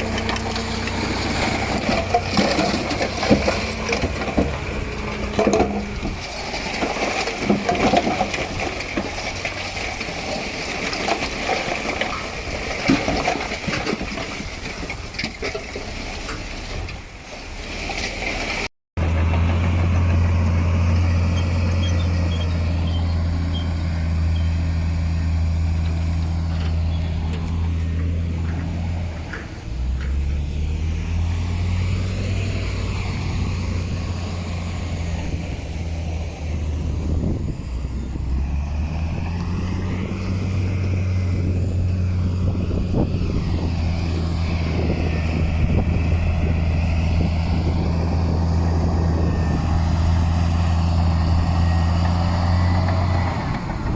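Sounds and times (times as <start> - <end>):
heavy diesel engine running: 0.0 - 14.6, 19.0 - 53.9.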